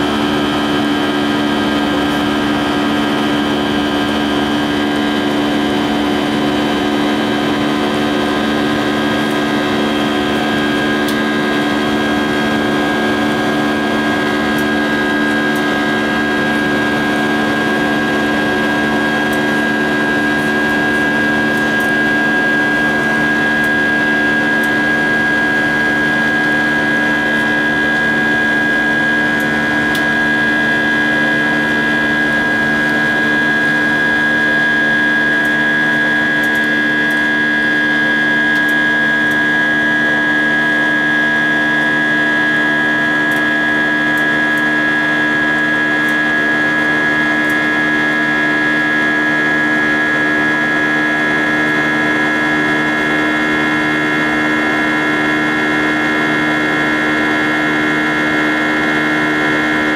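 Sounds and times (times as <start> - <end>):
jet engine roar in cabin: 0.0 - 59.9.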